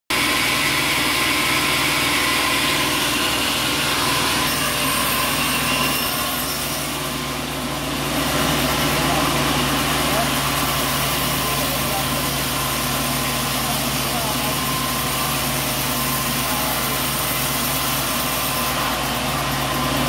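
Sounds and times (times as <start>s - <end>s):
sawmill engine humming: 0.1s - 20.0s.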